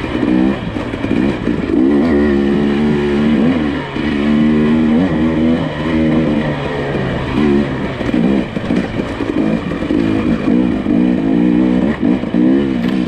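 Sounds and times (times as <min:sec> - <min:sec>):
suv engine revving: 0:00.0 - 0:13.0.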